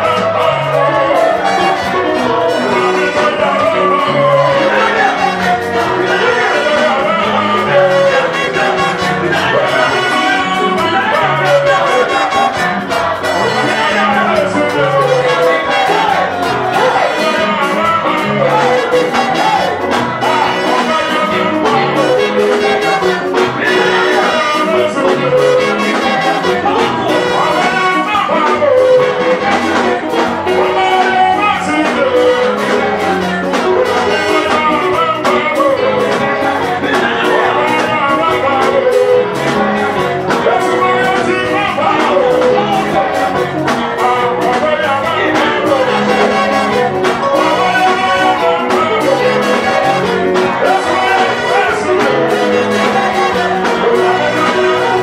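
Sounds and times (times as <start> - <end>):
lively praise music: 0.0 - 55.0.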